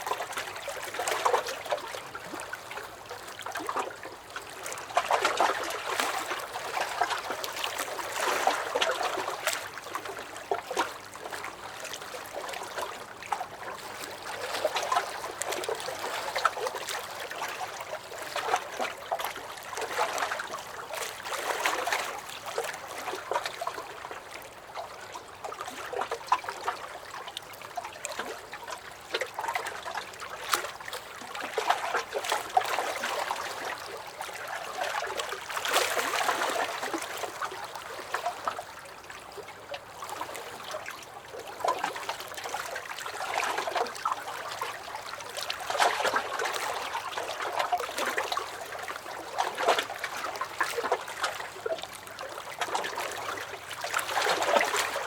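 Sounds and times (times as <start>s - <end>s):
waves lapping against dock: 0.0s - 55.0s.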